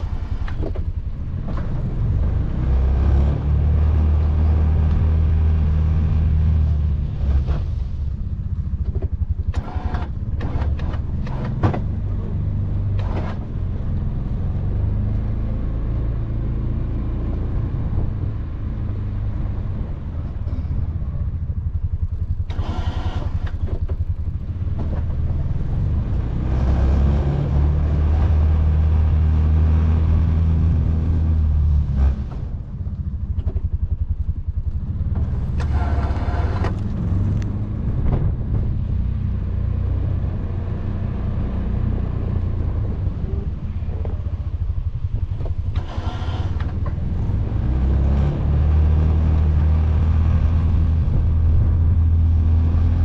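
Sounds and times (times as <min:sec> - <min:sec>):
engine running under load: 0:00.0 - 0:53.0.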